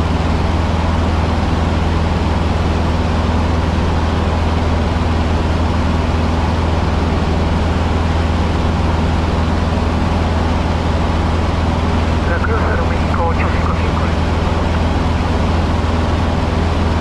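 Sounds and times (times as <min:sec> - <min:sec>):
plane engine drone in cockpit: 0:00.0 - 0:17.0.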